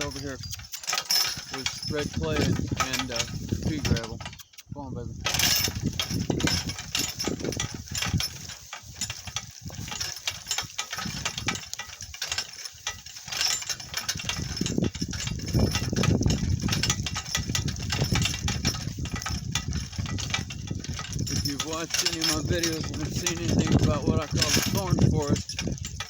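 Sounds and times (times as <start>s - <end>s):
cart rattling over bumpy ground: 0.0s - 26.0s.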